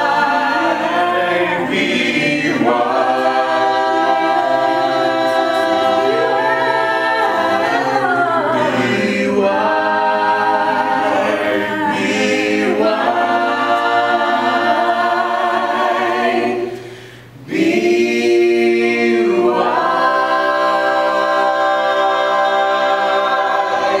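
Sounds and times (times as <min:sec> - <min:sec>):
choir singing chords: 0:00.0 - 0:24.0.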